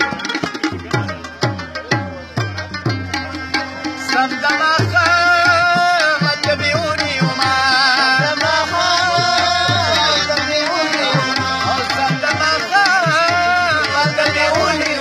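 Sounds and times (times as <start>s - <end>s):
keyboard and rabab melody: 0.0s - 15.0s
tabla rhythm: 0.0s - 15.0s.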